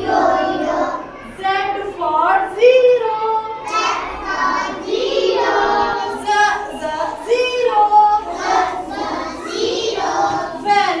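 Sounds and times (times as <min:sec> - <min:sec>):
children singing a chant: 0:00.0 - 0:11.0.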